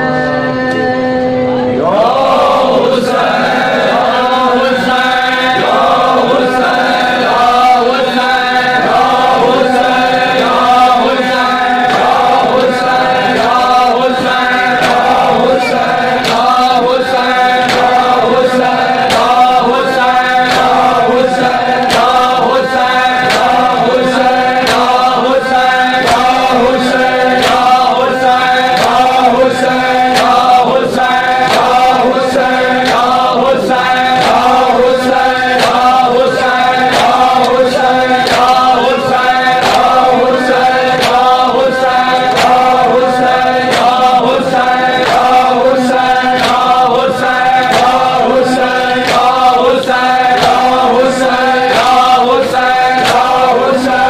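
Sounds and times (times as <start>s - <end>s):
men chanting a lament: 0.0s - 54.0s
chest-beating slaps: 10.4s - 54.0s.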